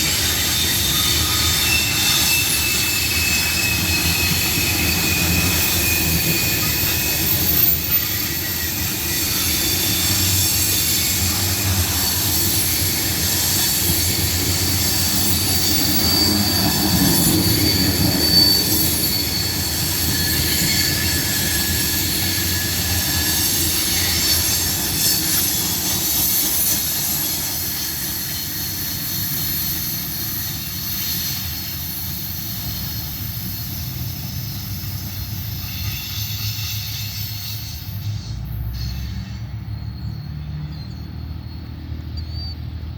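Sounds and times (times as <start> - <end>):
freight train wheels rumbling: 0.0 - 42.9
wheels squealing: 0.0 - 42.9.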